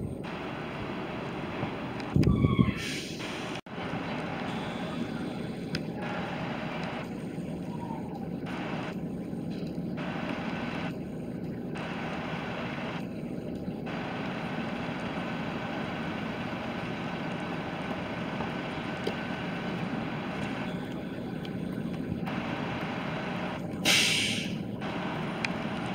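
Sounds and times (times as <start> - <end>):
bus engine rumble: 0.0 - 25.9
traffic: 0.0 - 25.9.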